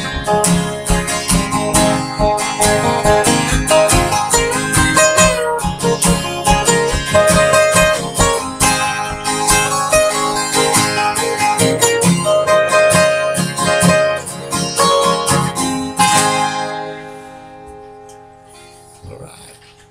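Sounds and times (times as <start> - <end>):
strummed acoustic guitars: 0.0 - 19.9.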